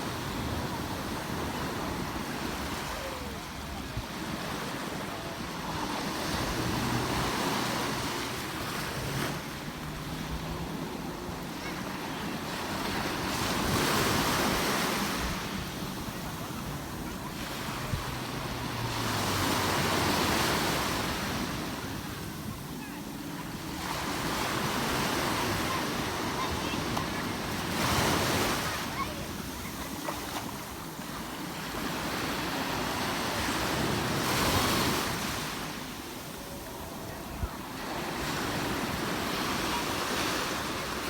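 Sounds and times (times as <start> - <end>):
sea waves breaking on shore: 0.0 - 41.0.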